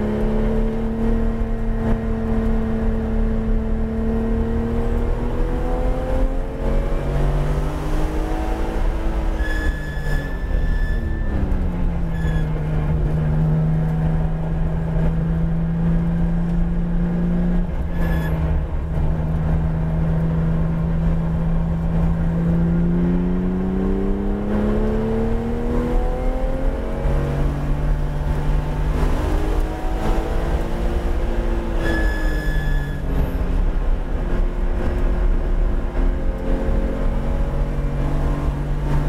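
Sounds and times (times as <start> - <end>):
car engine accelerating: 0.0 - 39.0
road and wind rumble: 0.0 - 39.0.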